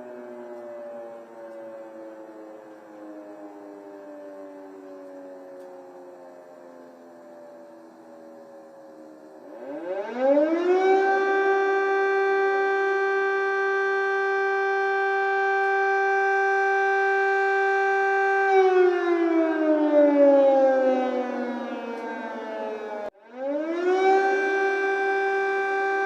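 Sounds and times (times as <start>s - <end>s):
air raid siren: 0.0s - 26.0s.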